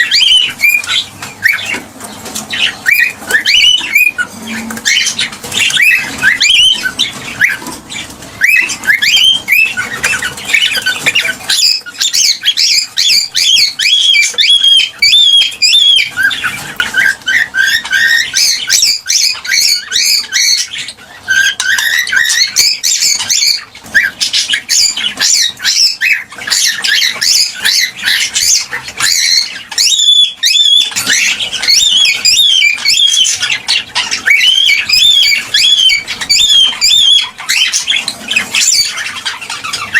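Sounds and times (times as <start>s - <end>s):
cockatiels chirping and calling: 0.0s - 39.9s.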